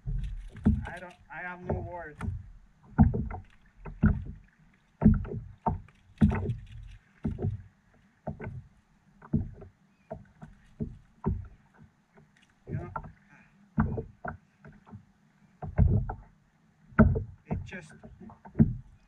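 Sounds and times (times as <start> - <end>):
water slapping against boat hull: 0.0 - 19.0.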